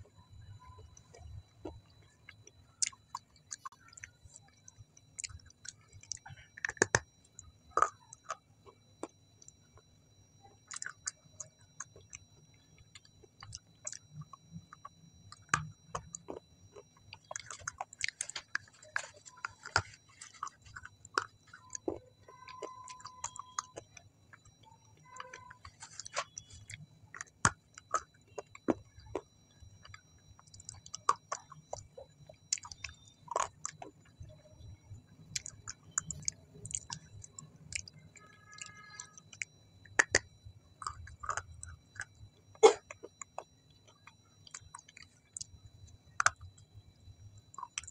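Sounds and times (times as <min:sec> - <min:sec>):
close chewing with mouth clicks: 0:00.0 - 0:47.9.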